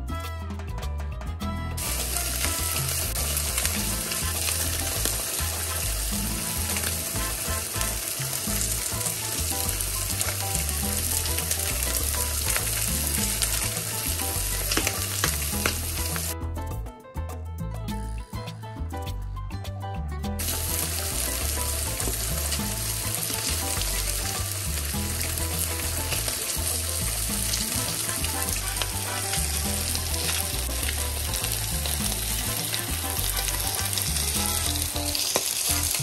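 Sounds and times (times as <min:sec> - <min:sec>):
background music with low beat: 0:00.0 - 0:36.0
fish sizzling in a frying pan: 0:01.8 - 0:16.4, 0:20.4 - 0:36.0.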